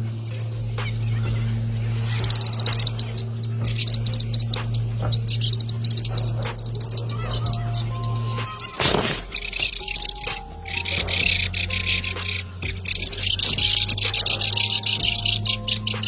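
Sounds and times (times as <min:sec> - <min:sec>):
small bird chattering: 0:00.0 - 0:16.0
steady low hum: 0:00.0 - 0:16.0.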